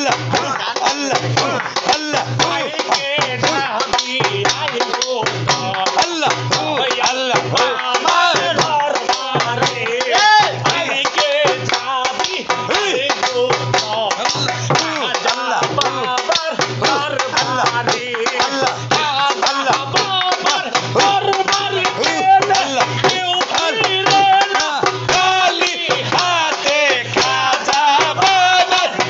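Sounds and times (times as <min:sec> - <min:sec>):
barrel drum beat: 0:00.0 - 0:29.0
hand clapping: 0:00.0 - 0:29.0
men singing in a group: 0:00.0 - 0:29.0.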